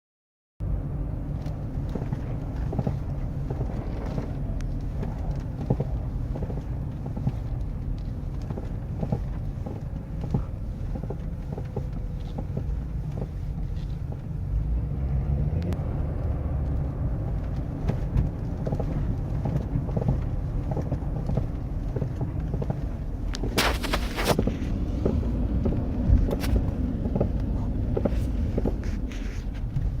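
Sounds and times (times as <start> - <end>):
low road rumble: 0.6 - 30.0
truck suspension clunking: 1.4 - 14.6, 16.7 - 30.0.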